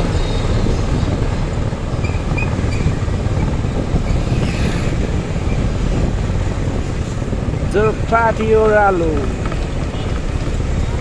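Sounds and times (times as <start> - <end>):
motorcycle engine running: 0.0 - 11.0
road noise: 0.0 - 11.0
wind rush on microphone: 0.0 - 11.0.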